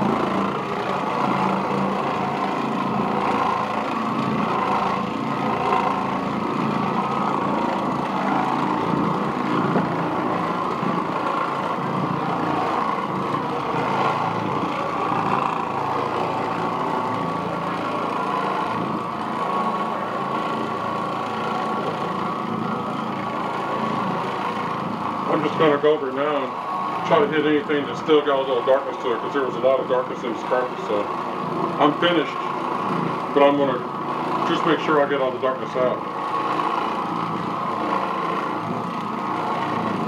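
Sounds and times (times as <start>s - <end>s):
floor machine motor running: 0.0s - 40.0s.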